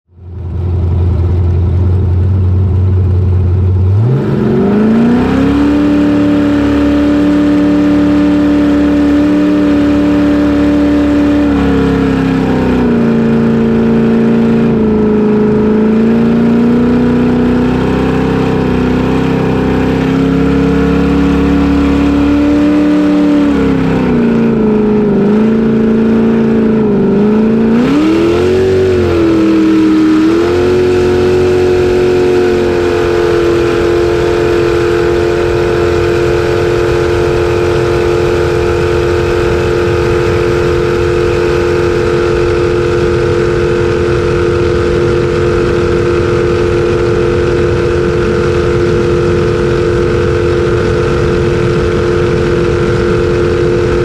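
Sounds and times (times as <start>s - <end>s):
jet boat engine revving: 0.3s - 54.0s.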